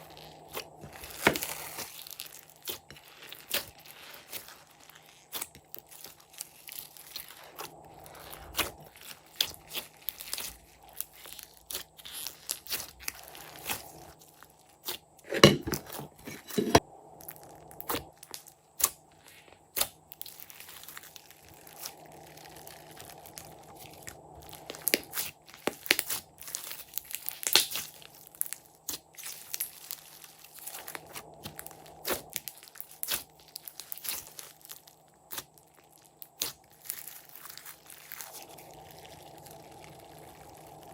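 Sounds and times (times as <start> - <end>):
slime squished by hand: 0.0 - 40.9.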